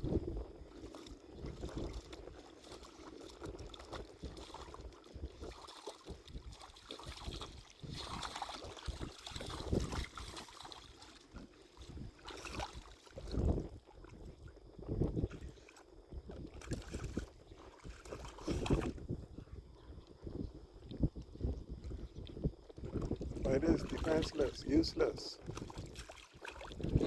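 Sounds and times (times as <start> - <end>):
moving water: 0.0 - 27.0
wind rumble on microphone: 0.0 - 27.0.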